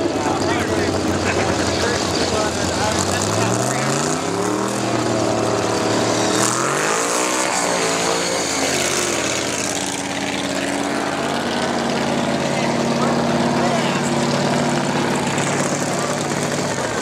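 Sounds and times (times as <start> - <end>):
drag racing car engine revving: 0.0 - 17.0.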